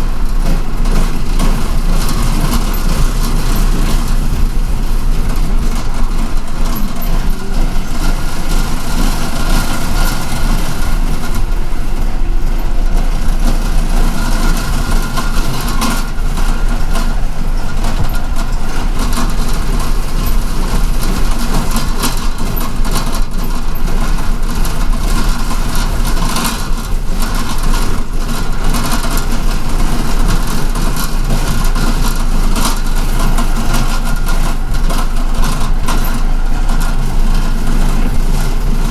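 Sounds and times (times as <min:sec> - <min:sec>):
low engine rumble: 0:00.0 - 0:38.9
road noise: 0:00.0 - 0:38.9
short knocks and rattles: 0:00.0 - 0:38.9.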